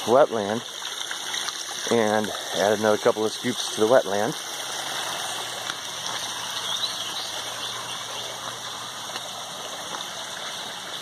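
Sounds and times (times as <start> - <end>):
water running over rocks: 0.0 - 11.0.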